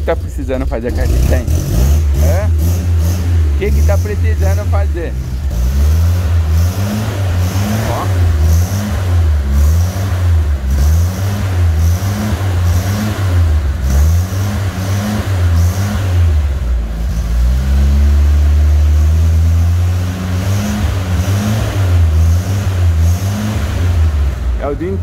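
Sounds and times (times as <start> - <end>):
pickup engine revving: 0.0 - 25.0.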